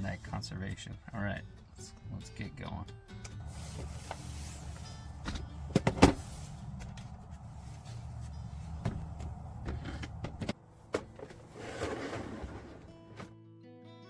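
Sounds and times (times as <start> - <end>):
van engine and road rumble: 0.0 - 13.4.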